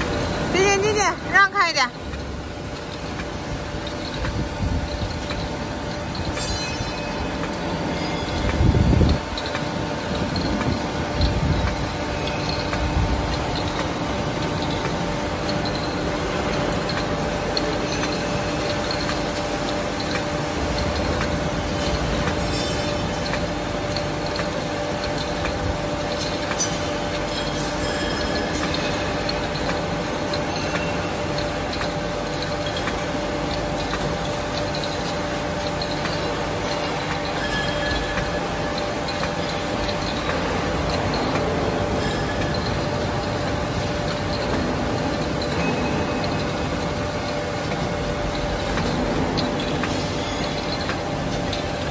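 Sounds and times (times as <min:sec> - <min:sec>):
faint conveyor ticking: 0:00.0 - 0:51.9
machine motors humming: 0:00.0 - 0:51.9.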